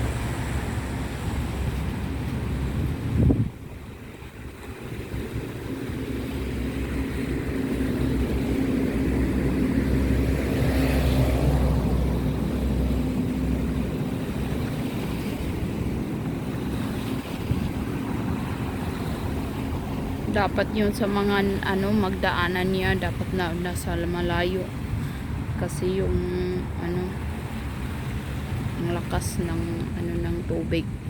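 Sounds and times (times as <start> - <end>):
ship engine drone: 0.0 - 31.0.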